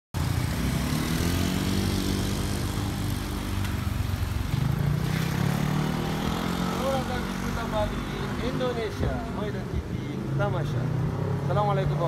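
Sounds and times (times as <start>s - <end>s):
motorbikes passing close by: 0.2s - 12.0s.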